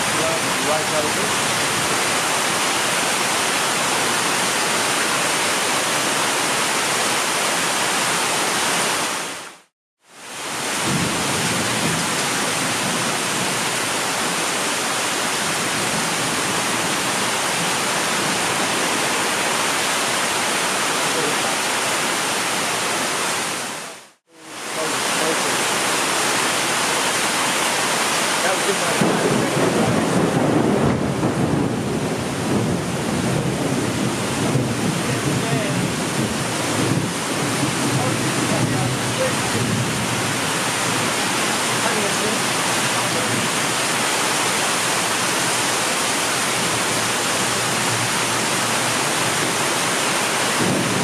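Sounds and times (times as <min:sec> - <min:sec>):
heavy rain hiss: 0:00.0 - 0:51.0.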